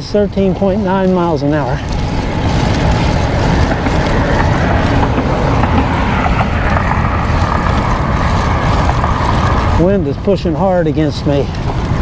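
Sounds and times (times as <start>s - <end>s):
bike tyre noise on road: 0.0s - 12.0s
wind buffeting microphone: 0.0s - 12.0s.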